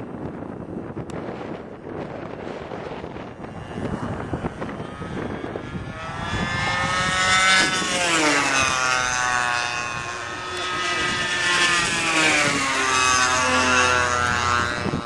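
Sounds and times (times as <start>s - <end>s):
model airplane engine whining: 0.0s - 15.0s
wind on the microphone: 0.0s - 15.0s.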